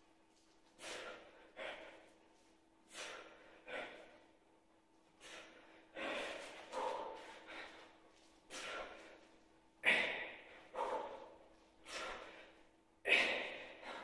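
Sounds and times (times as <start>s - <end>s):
man breathing hard: 0.0s - 14.0s.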